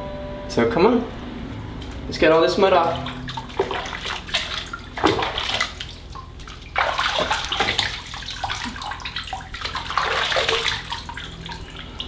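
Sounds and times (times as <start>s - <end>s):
bathwater splashing in a tub: 2.2s - 12.0s.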